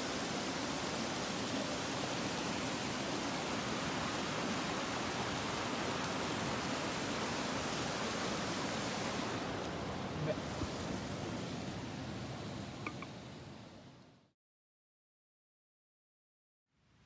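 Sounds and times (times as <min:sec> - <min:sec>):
water rushing in a stream: 0:00.0 - 0:14.1.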